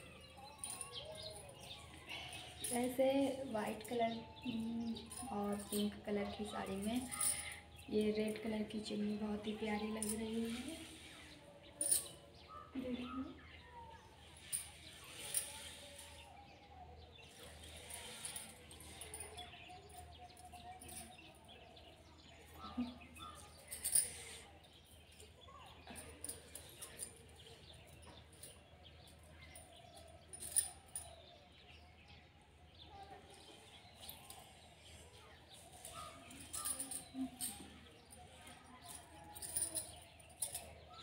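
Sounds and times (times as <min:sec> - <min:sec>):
bangles clinking: 0:00.0 - 0:32.0, 0:32.6 - 0:41.0.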